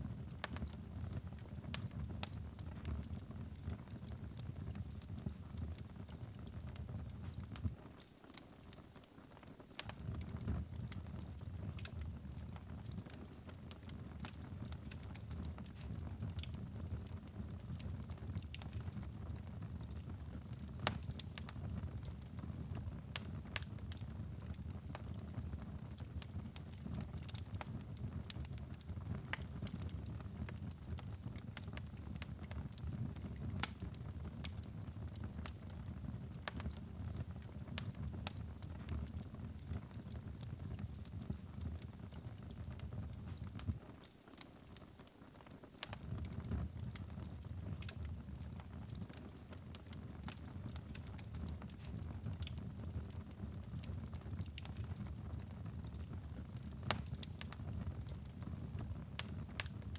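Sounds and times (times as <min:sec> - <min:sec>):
wood fire crackles and pops: 0:00.0 - 0:59.9
low rumble of flames: 0:09.8 - 0:43.8, 0:45.8 - 0:59.9.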